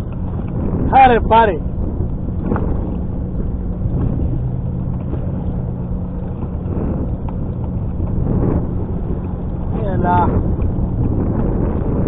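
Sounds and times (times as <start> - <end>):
outboard engine idling: 0.0 - 12.0
wind noise on microphone: 0.0 - 12.0.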